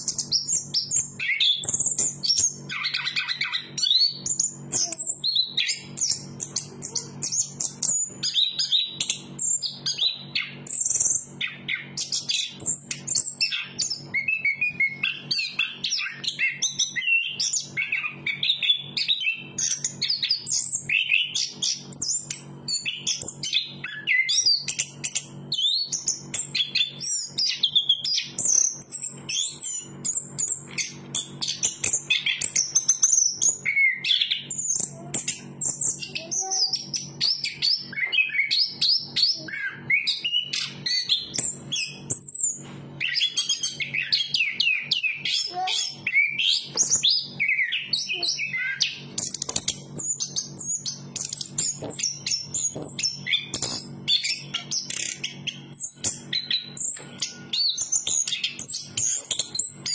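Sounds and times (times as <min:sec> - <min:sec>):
thrush singing whistles and trills: 0:00.0 - 0:59.9.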